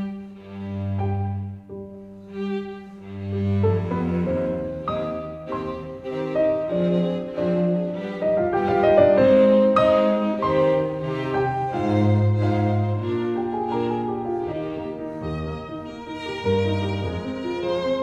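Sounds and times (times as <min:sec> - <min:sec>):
bowed strings: 0:00.0 - 0:18.0
piano: 0:00.0 - 0:18.0.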